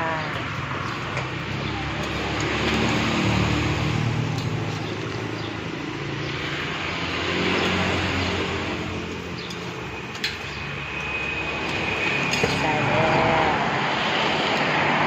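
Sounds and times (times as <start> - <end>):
engine running low hum: 0.0 - 14.8.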